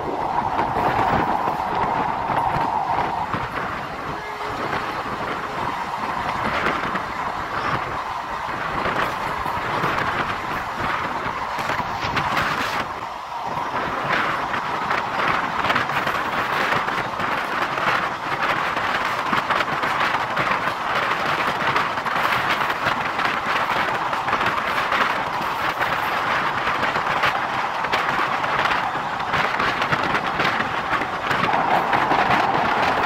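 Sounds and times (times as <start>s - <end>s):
train wheels rushing on rail: 0.0s - 33.0s
wheels clicking and clattering: 0.0s - 33.0s.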